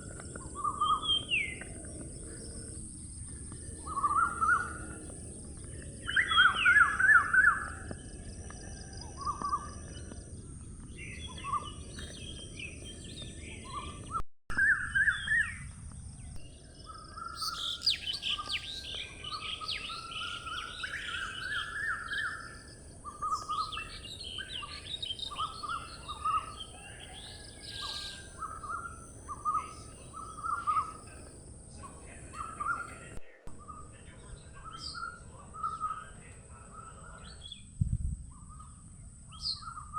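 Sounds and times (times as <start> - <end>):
birds chirping: 0.0 - 37.7.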